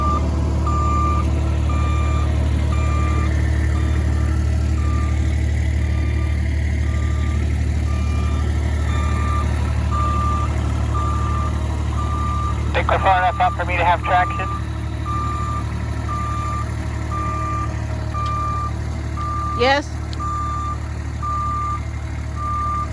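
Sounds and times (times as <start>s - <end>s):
excavator engine running: 0.0s - 22.9s
excavator travel alarm beeping: 0.0s - 22.9s.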